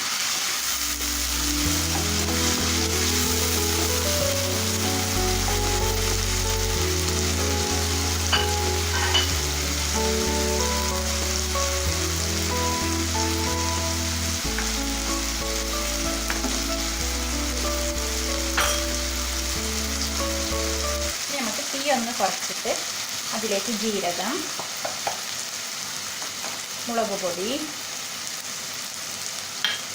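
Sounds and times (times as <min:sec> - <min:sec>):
vegetables sizzling in a pan: 0:00.0 - 0:29.9.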